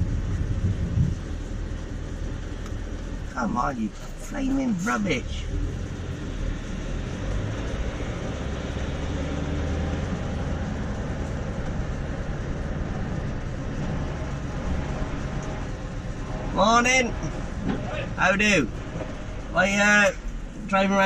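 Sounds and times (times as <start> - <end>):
lorry engine under heavy load: 0.0 - 21.0.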